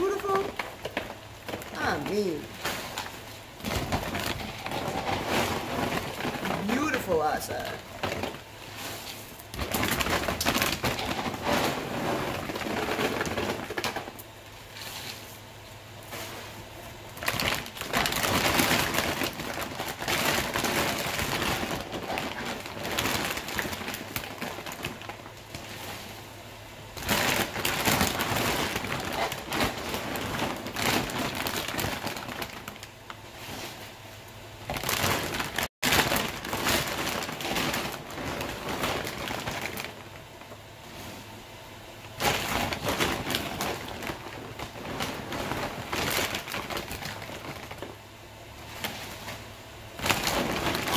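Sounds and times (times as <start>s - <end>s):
plastic bag crinkling: 0.0s - 8.8s, 9.4s - 14.3s, 17.1s - 26.0s, 27.0s - 33.3s, 34.6s - 40.7s, 42.2s - 48.0s, 50.0s - 50.9s.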